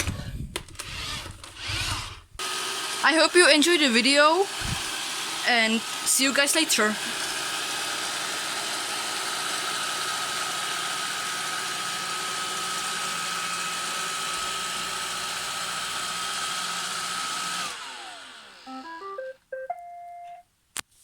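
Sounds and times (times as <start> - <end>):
robot vacuum whirring: 0.0 - 19.1.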